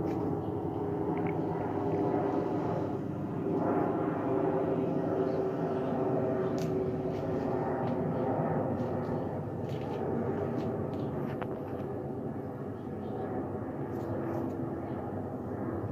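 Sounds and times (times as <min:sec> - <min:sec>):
jet airliner flying overhead: 0:00.0 - 0:15.9.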